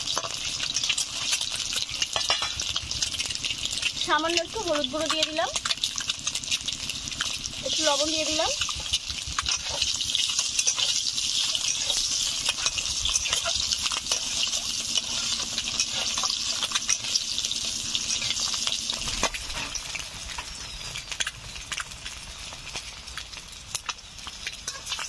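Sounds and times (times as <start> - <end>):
eggs sizzling in hot oil: 0.0 - 25.0.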